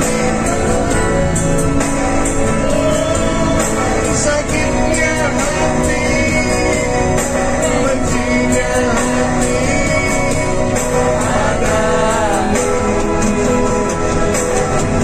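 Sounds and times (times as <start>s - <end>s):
man singing into a microphone: 0.0s - 14.0s
karaoke backing music: 0.0s - 15.0s.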